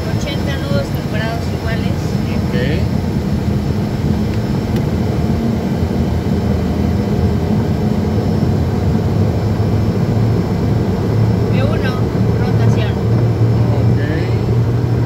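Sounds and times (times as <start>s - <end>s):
jet engine hum: 0.0s - 15.0s
low rumble of runway roll: 0.0s - 15.0s.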